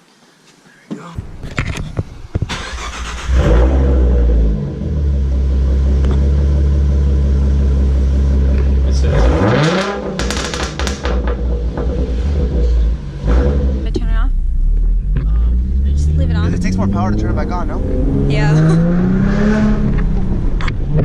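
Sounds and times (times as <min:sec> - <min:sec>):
car engine starting and idling: 0:01.0 - 0:21.0
engine revving: 0:02.5 - 0:21.0.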